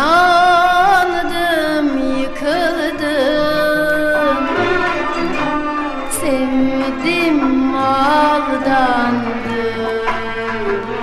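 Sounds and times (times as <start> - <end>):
soft accompaniment: 0.0 - 11.0.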